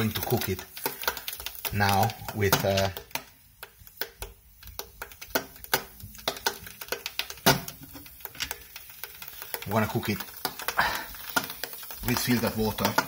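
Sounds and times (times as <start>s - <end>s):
saucepan clicks and crackles: 0.0s - 13.0s.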